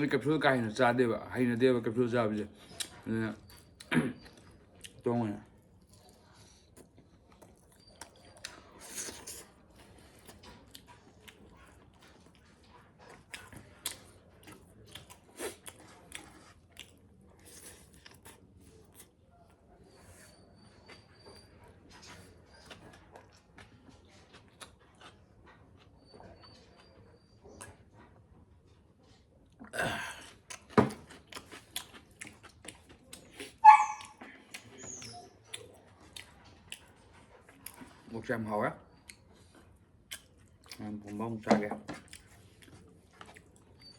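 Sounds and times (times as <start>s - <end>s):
person chewing food: 2.6s - 26.9s, 27.5s - 38.1s, 39.0s - 43.9s.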